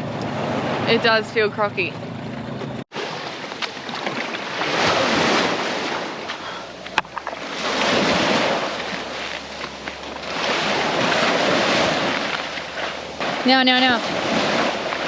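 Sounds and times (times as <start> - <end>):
wind buffeting microphone: 0.0 - 15.0
surf breaking: 2.9 - 15.0.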